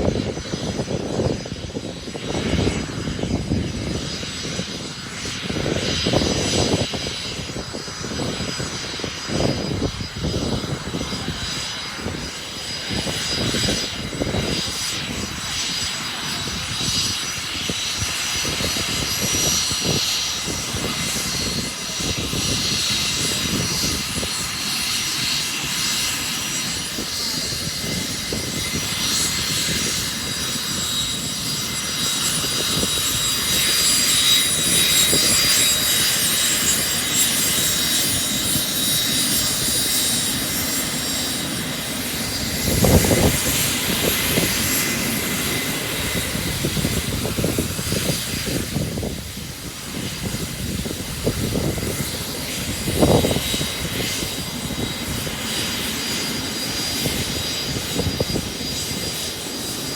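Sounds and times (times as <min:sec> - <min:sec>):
jet engines with high whine: 0:00.0 - 0:59.9.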